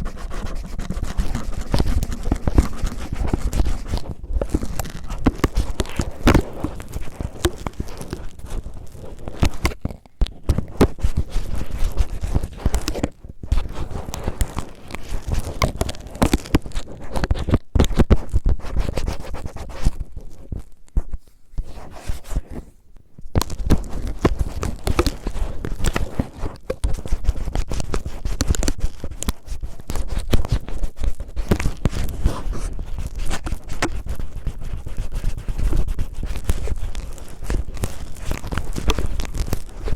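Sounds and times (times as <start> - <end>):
cellophane crinkling on microphone: 0.0 - 22.6, 23.2 - 39.9.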